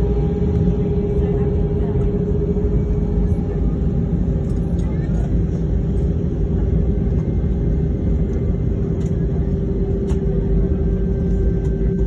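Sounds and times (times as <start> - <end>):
aircraft cabin engine hum: 0.0 - 12.0.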